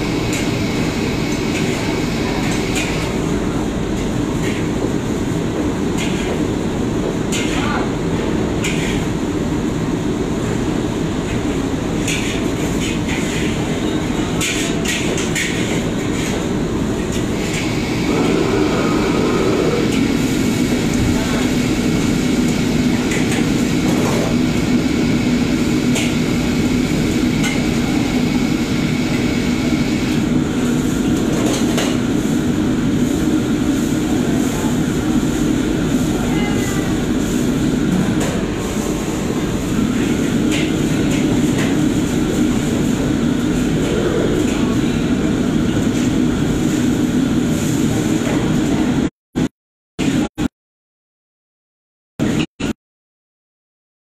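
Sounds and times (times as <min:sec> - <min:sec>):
gas wok burners rushing: 0:00.0 - 0:49.0.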